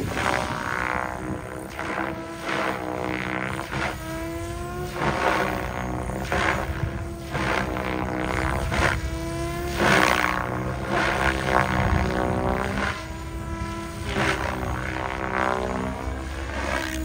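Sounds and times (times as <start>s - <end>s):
helicopter whining drive tone: 0.0s - 17.0s
rotor blades whooshing: 0.0s - 17.0s.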